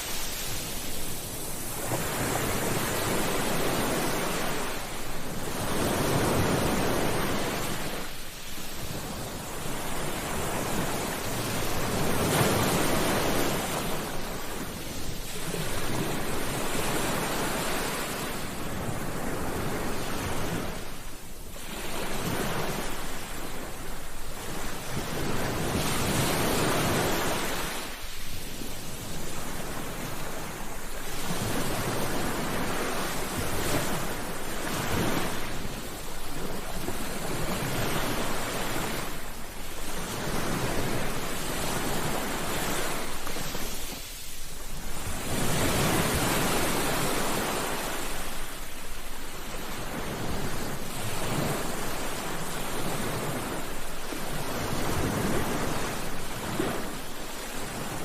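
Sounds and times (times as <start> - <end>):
waves breaking ashore: 0.0 - 58.0.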